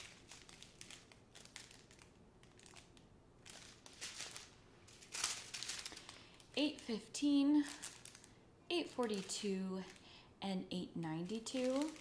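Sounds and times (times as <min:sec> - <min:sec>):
plastic bags crinkling: 0:00.0 - 0:10.2, 0:11.2 - 0:12.0.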